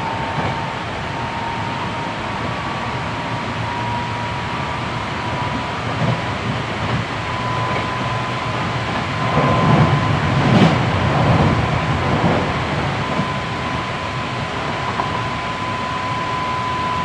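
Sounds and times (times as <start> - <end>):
high whine: 0.0 - 17.0
train rolling rumble: 0.0 - 17.0.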